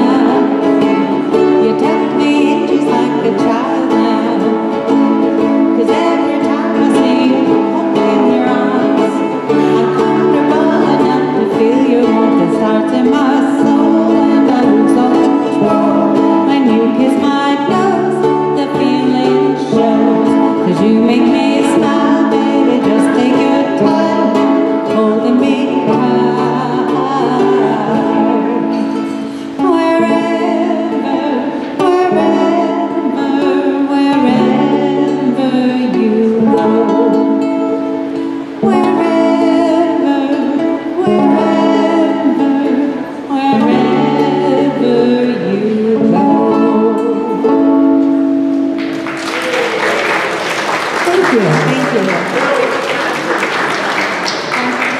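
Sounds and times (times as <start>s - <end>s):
person singing: 0.0s - 48.3s
plucked strings: 0.0s - 49.8s.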